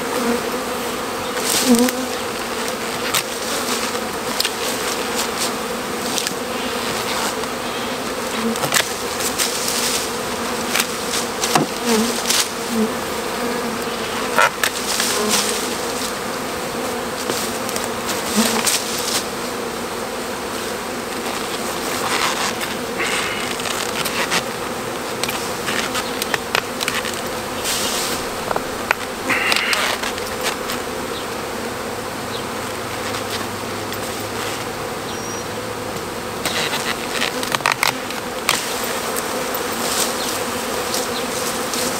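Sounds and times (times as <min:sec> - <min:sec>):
honeybee swarm buzzing: 0:00.0 - 0:41.9
loppers cutting branches: 0:01.2 - 0:31.9, 0:35.9 - 0:41.9.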